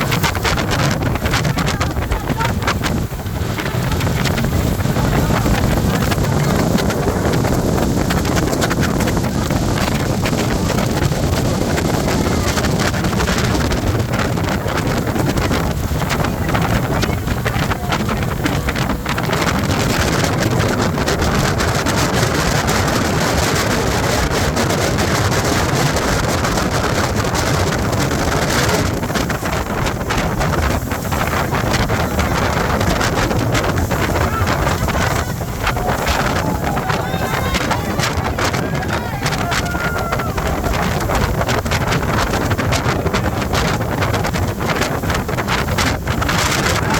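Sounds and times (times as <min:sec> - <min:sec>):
speedboat running: 0:00.0 - 0:46.9
wind buffeting microphone: 0:00.0 - 0:46.9.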